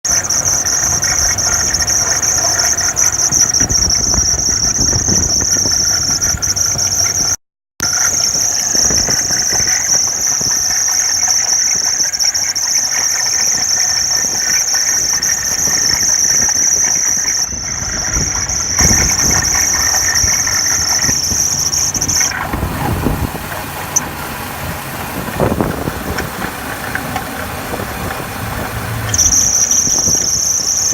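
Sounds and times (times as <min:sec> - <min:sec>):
engine rumble: 0:00.0 - 0:30.9
high-pitched belt squeal: 0:00.0 - 0:30.9.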